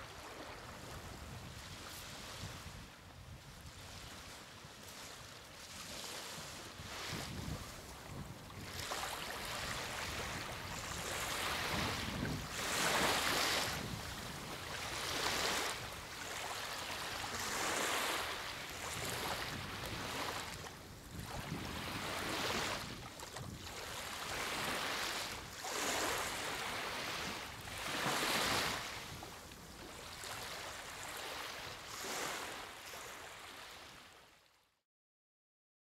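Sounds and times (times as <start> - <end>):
small waves lapping on beach: 0.0 - 34.6.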